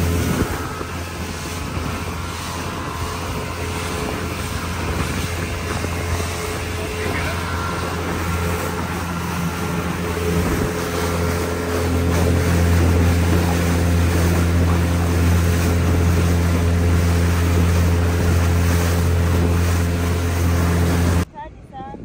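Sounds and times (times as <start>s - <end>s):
motorboat engine droning: 0.0s - 21.3s
water rushing along hull: 0.0s - 21.3s.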